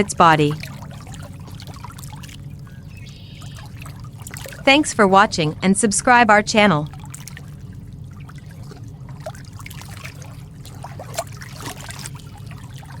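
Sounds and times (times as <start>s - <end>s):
water trickling and bubbling: 0.0s - 5.6s, 6.6s - 13.0s
low continuous rumble: 0.0s - 13.0s.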